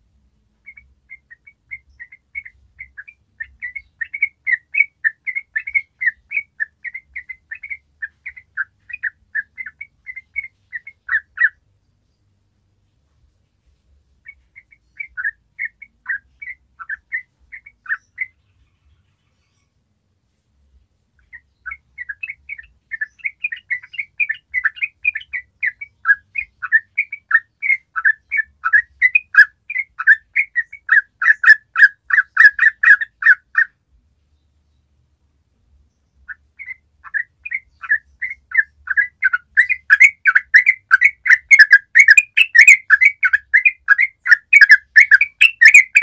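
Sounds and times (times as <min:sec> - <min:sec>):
bird singing chirped notes: 0:00.6 - 0:12.3, 0:14.2 - 0:19.8, 0:21.2 - 0:35.0, 0:35.9 - 0:46.0.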